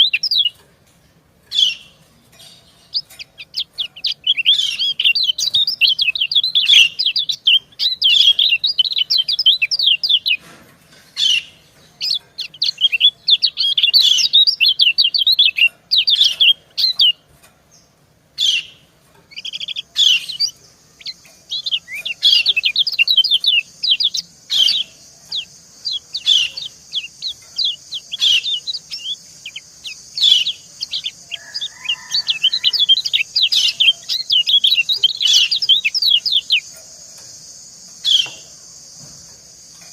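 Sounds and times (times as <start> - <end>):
birds chirping rapidly: 0.0 - 39.9
steady high hiss: 0.0 - 39.9.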